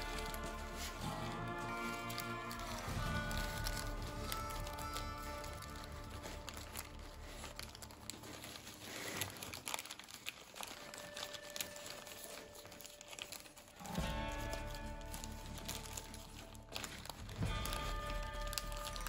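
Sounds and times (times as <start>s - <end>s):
paper crinkling and crackling: 0.0s - 19.0s.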